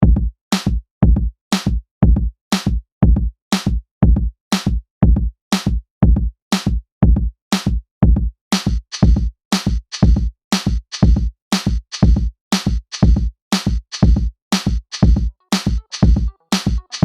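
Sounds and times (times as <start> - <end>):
deep kick drum: 0.0 - 16.9.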